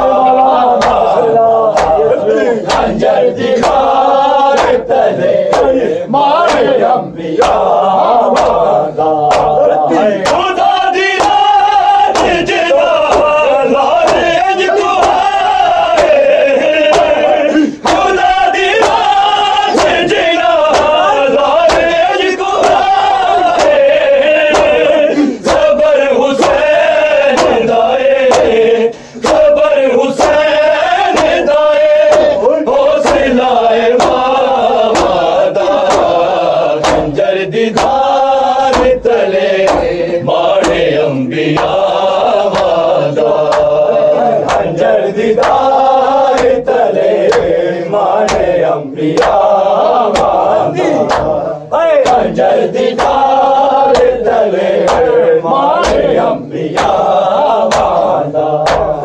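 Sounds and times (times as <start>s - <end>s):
men chanting a lament: 0.0s - 59.0s
steady beat of sharp strikes: 0.0s - 59.0s.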